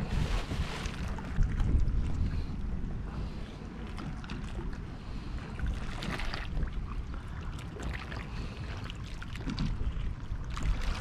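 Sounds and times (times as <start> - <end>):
water lapping around kayak: 0.0 - 11.0
wind rumbling on microphone: 0.0 - 11.0.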